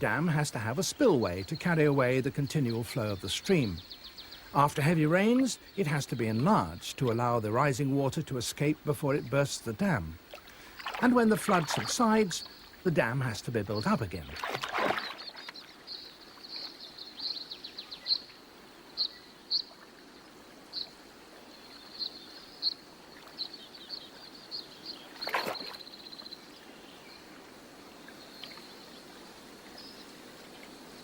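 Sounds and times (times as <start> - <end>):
small birds chirping: 0.0 - 27.4, 28.0 - 30.6
faint outdoor hiss: 0.0 - 31.0.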